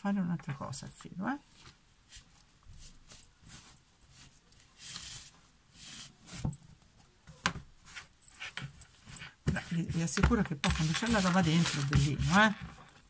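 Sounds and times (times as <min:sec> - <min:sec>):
fabric rustling and sliding: 0:01.4 - 0:07.1, 0:07.7 - 0:13.0.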